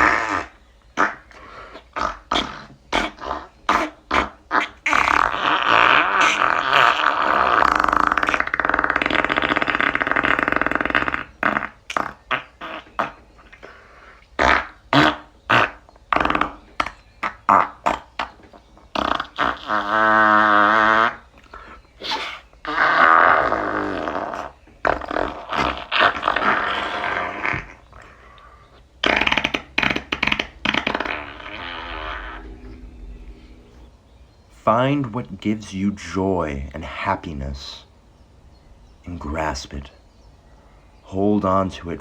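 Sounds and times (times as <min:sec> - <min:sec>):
mouth raspberry fart sounds: 0:00.0 - 0:33.9.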